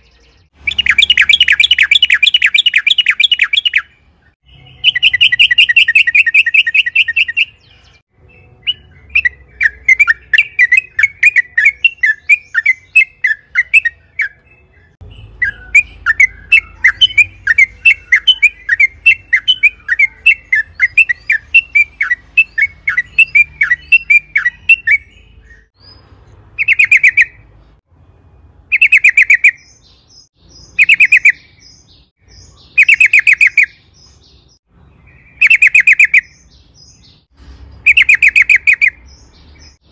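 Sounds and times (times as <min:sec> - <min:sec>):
bird singing rattling trills: 0:00.0 - 0:27.4, 0:28.7 - 0:39.9.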